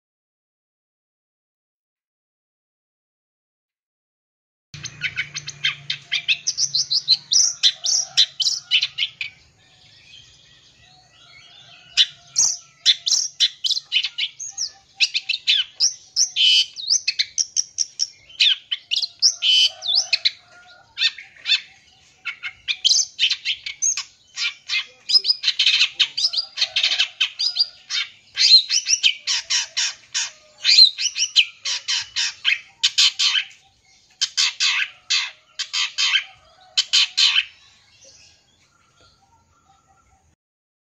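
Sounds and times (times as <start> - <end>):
bird singing chattering song: 4.8 - 40.4.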